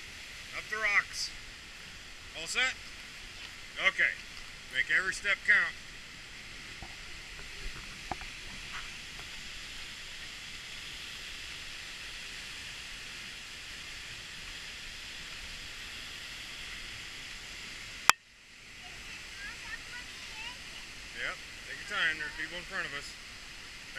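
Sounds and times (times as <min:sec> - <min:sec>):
waterfall hiss: 0:00.0 - 0:23.9.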